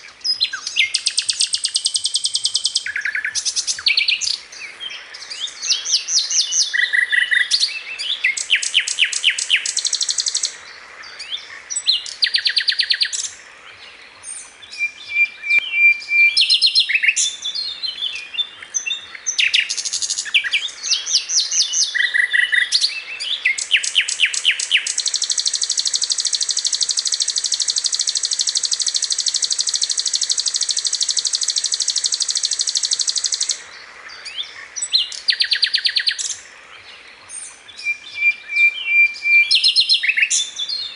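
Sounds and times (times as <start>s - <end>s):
flycatcher singing: 0.0s - 10.6s, 11.2s - 36.5s, 37.2s - 40.9s.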